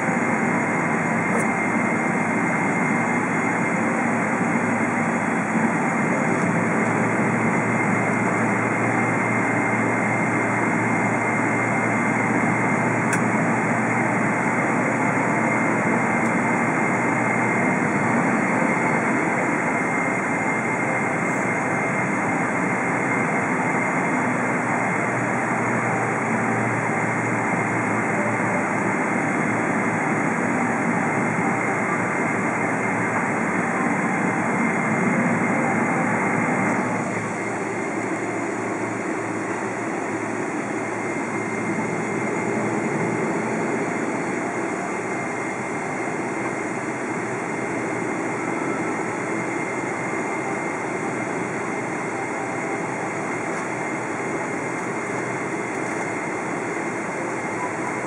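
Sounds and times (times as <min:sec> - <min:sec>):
faint high whine: 0:00.0 - 0:58.0
jet engine and airflow rush: 0:00.0 - 0:58.0.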